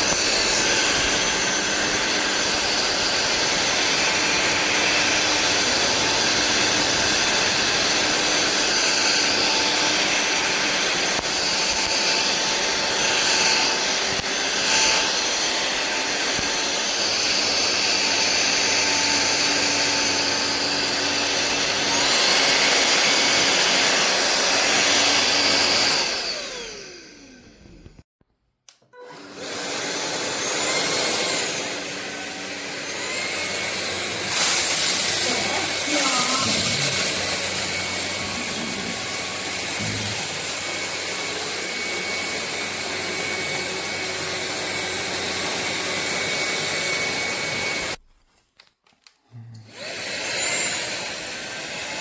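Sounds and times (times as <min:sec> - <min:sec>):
stick vacuum running: 0:00.0 - 0:28.0, 0:28.7 - 0:48.0, 0:49.5 - 0:52.0
vacuum motor whining down: 0:00.0 - 0:28.0, 0:29.0 - 0:48.0, 0:49.6 - 0:52.0.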